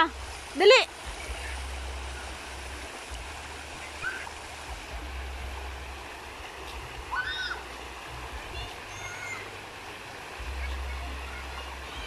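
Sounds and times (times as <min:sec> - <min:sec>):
creek flowing: 0:00.0 - 0:12.0.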